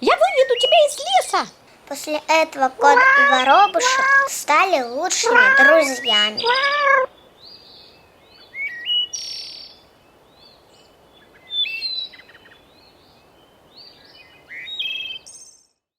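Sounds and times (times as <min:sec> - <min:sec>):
small birds chirping and trilling: 0:00.0 - 0:01.3, 0:02.1 - 0:15.7
faint background hiss: 0:00.0 - 0:15.9.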